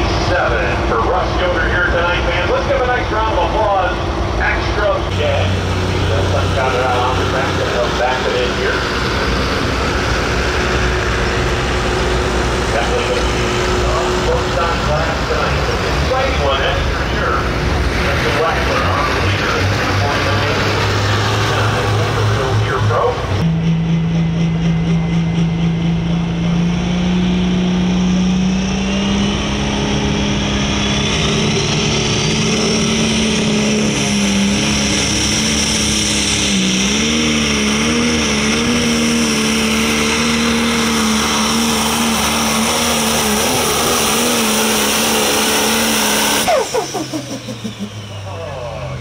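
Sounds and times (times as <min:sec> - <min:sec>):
diesel engine at full throttle: 0:00.0 - 0:49.0.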